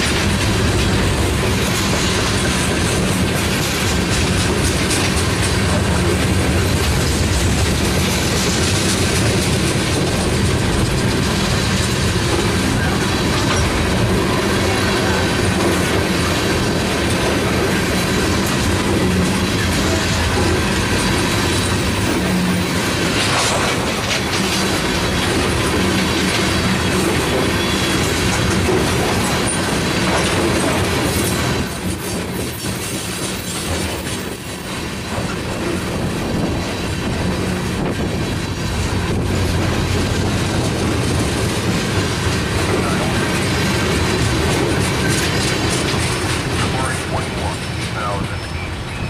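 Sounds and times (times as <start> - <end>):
freight train rolling past: 0.0 - 49.0.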